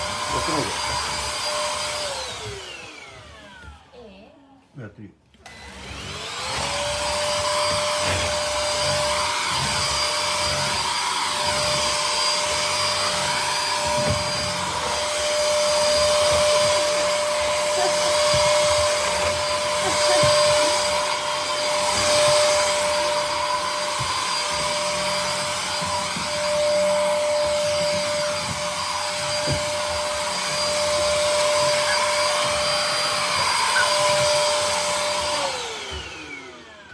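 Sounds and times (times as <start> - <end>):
vacuum cleaner running: 0.0 - 4.0, 5.4 - 36.9.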